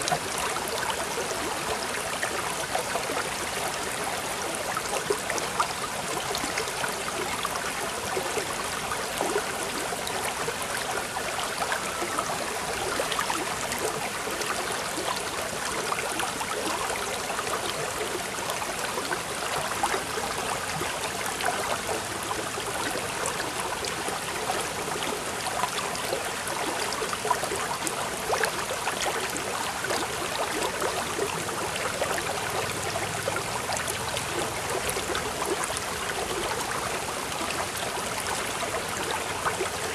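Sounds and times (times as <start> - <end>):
babble of flowing water: 0.0 - 39.9.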